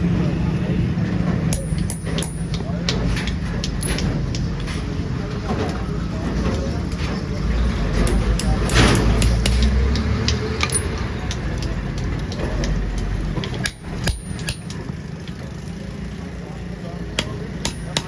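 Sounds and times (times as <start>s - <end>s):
low machine rumble: 0.0s - 18.0s
metal clicks and knocks: 1.5s - 15.4s, 17.2s - 18.0s.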